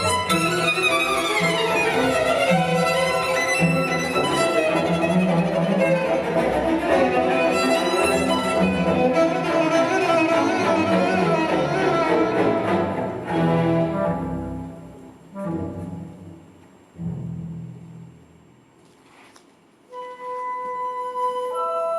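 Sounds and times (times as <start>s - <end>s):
orchestral music with bowed strings: 0.0s - 18.2s.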